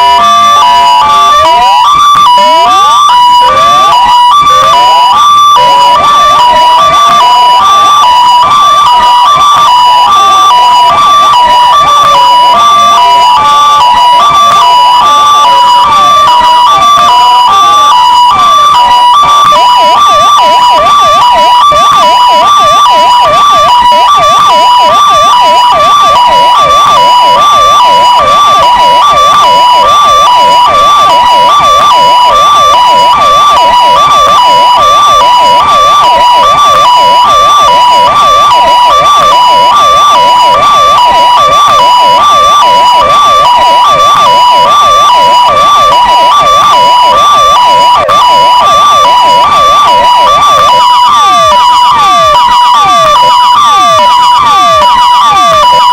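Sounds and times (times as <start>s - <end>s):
hi-lo siren: 0.0s - 55.9s
yelp siren: 0.0s - 55.9s.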